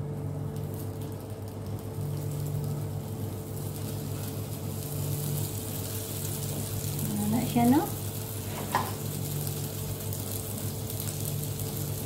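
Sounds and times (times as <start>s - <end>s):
steady low hum: 0.0s - 12.0s
tomato sizzling in frying pan: 0.0s - 12.0s.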